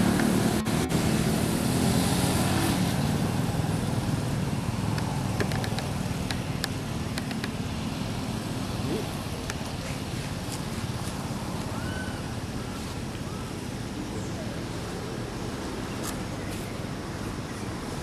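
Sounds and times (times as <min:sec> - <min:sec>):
vehicle engine hum passing: 0:00.0 - 0:18.0.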